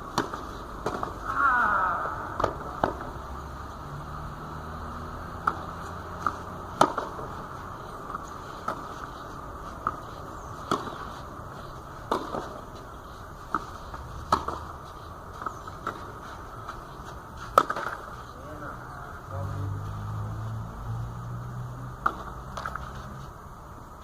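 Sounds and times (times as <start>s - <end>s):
tennis balls struck by racquets: 0.0s - 3.7s, 4.8s - 19.4s, 21.8s - 23.0s.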